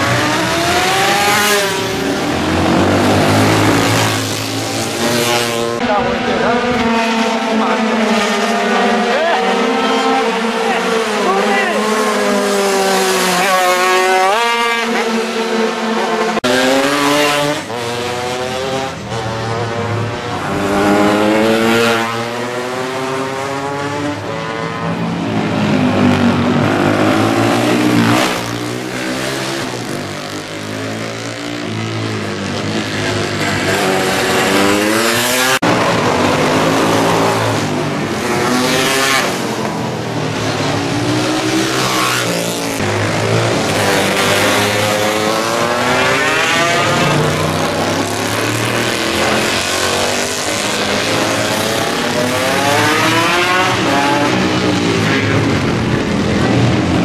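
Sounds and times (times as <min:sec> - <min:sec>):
racing motorcycles passing at speed: 0:00.0 - 0:57.0.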